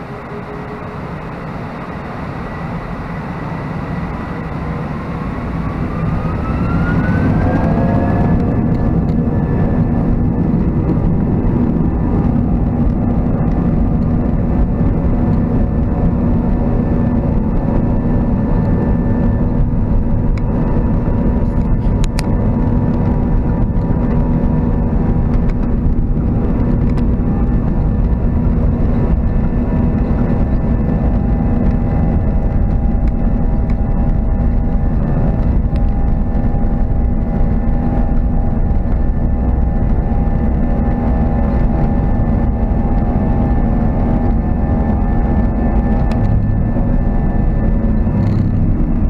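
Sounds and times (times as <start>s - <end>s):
jet engines rumbling at low power: 0.0s - 49.0s.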